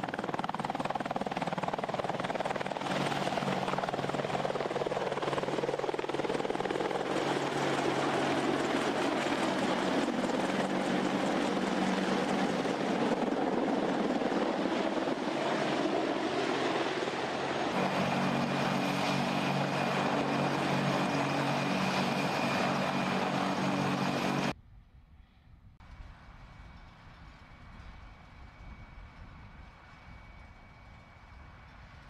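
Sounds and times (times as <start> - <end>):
helicopter flying low: 0.0 - 32.0.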